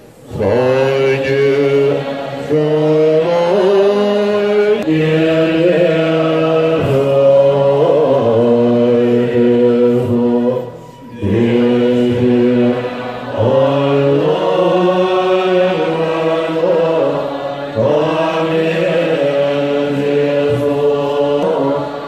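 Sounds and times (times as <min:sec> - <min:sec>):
monks chanting in unison: 0:00.2 - 0:22.0.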